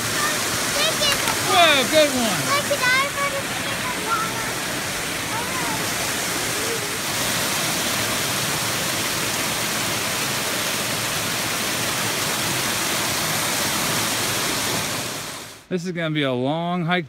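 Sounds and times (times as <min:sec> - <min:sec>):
waterfall rushing over boulders: 0:00.0 - 0:15.7.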